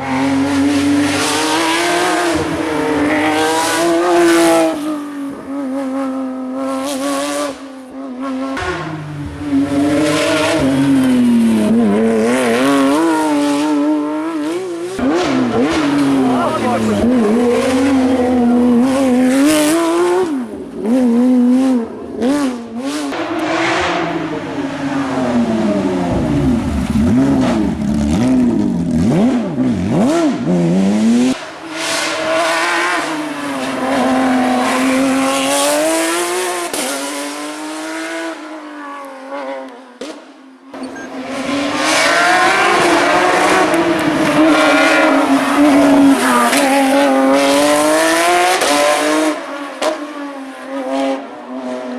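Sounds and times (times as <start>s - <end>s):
race car engine revving: 0.0s - 51.9s.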